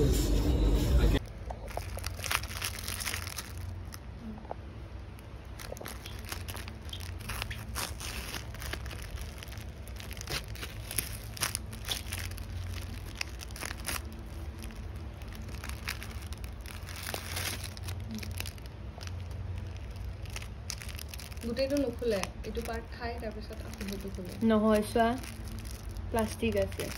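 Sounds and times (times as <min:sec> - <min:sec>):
plastic film wrapper crinkling: 0:01.2 - 0:04.4, 0:05.0 - 0:26.9.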